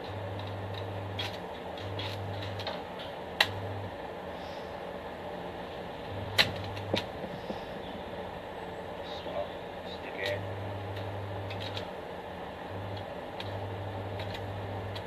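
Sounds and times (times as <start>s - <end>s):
stick welder humming and crackling: 0.0s - 15.0s.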